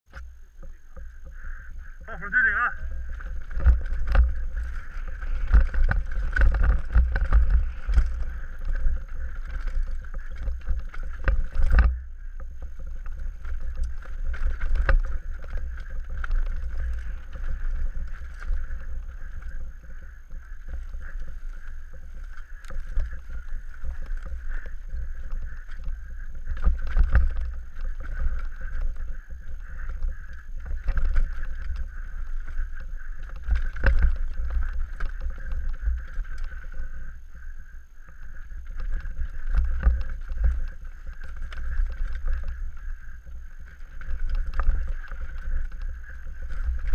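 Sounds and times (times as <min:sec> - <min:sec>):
wind buffeting microphone: 0:00.0 - 0:46.9
mountain bike rattling: 0:00.1 - 0:46.9.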